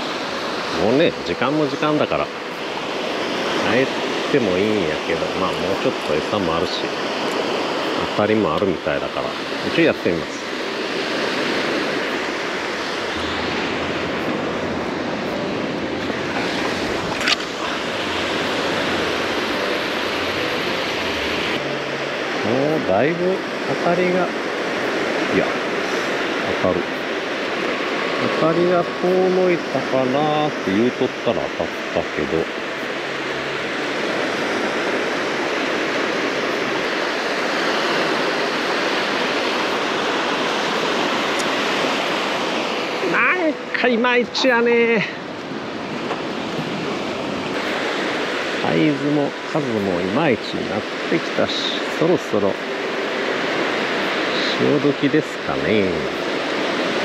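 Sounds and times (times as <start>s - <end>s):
waves washing onto sand: 0.0s - 57.0s.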